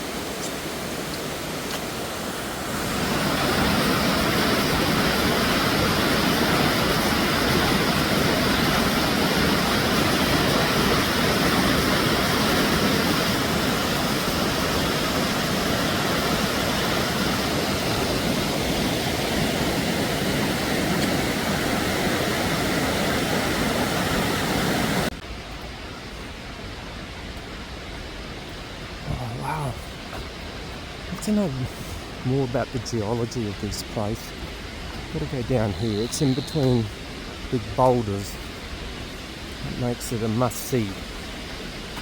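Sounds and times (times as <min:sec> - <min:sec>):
waterfall rushing over rock: 0:00.0 - 0:42.0.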